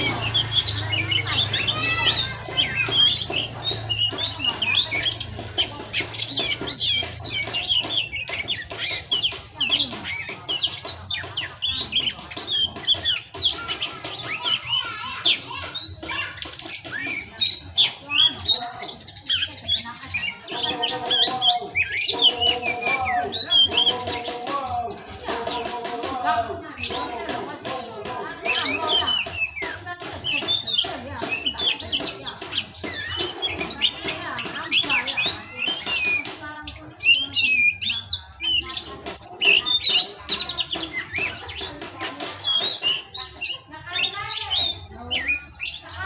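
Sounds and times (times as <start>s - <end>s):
bird singing chirps and whistles: 0.0s - 25.9s, 28.0s - 46.0s.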